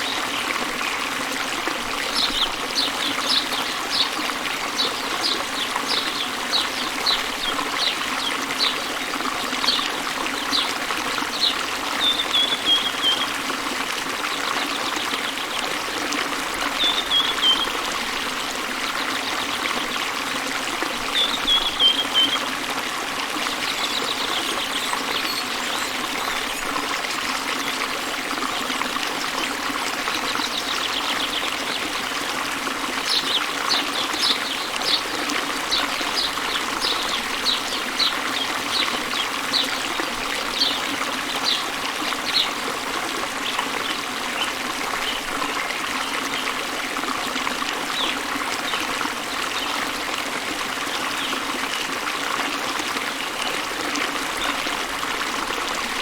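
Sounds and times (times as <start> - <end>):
waterfall pouring into river: 0.0 - 56.0.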